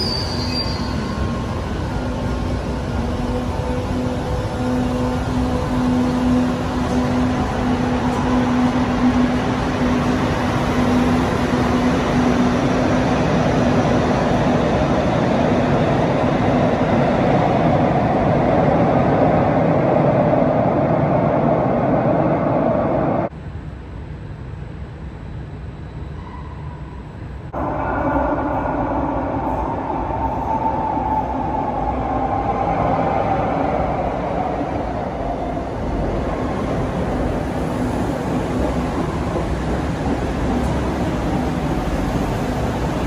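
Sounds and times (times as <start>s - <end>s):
wheels rumbling on rail: 0.0s - 23.3s, 26.2s - 43.0s.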